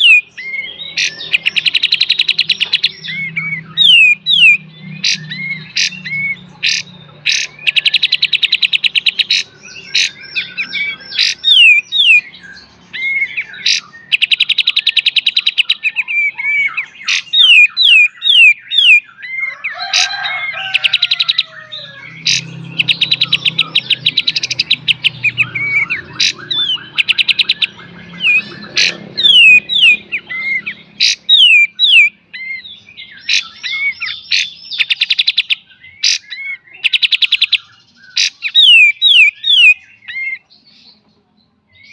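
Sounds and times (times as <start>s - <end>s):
bird singing trills and whistles: 0.0s - 41.9s.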